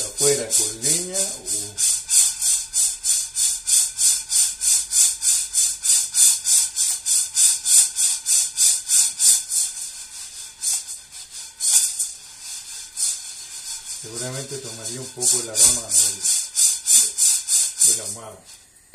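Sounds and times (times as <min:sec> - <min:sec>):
coffee beans rattling in a frying pan: 0:00.0 - 0:18.8.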